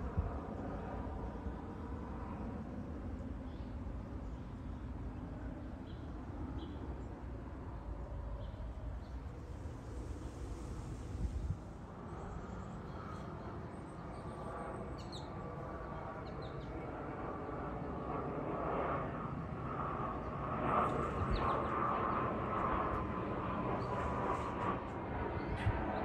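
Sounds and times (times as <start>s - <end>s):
aircraft engine flying over: 0.0s - 26.0s.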